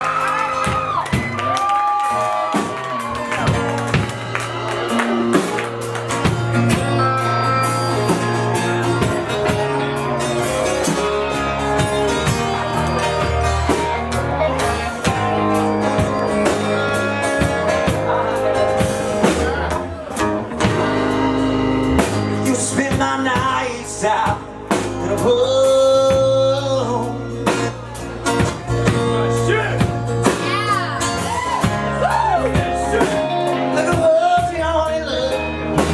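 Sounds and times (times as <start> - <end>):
live band playing country ballad: 0.0 - 35.9.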